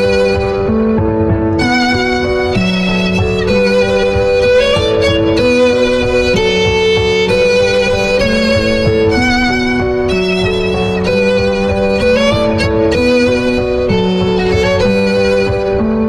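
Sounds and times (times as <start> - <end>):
melody over sustained chords: 0.0 - 16.0.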